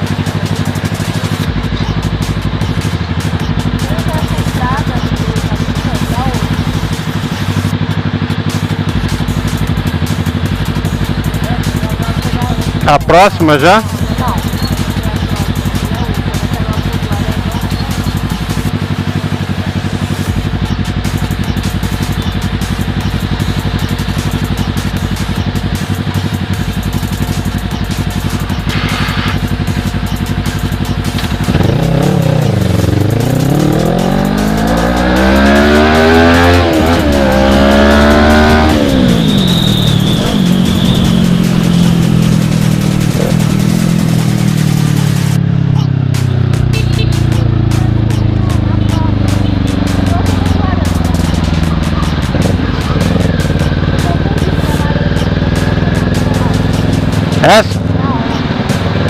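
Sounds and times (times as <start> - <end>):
motorcycle engine idling and revving: 0.0 - 59.0
wind or road noise: 0.0 - 59.0.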